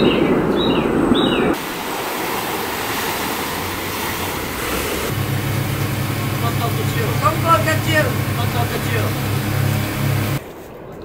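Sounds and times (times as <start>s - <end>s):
ocean surf: 1.6s - 10.4s.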